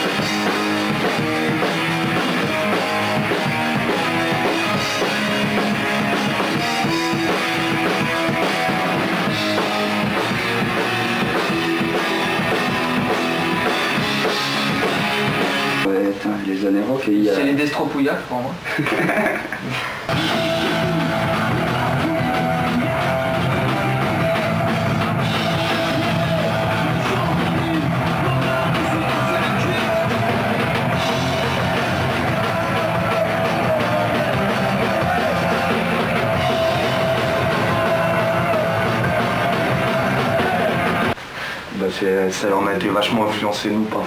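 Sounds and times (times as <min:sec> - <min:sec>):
person singing: 0:00.0 - 0:15.5, 0:20.1 - 0:41.2
electric guitar: 0:00.0 - 0:15.9, 0:19.1 - 0:41.2
drum kit: 0:00.0 - 0:17.9, 0:18.6 - 0:41.7.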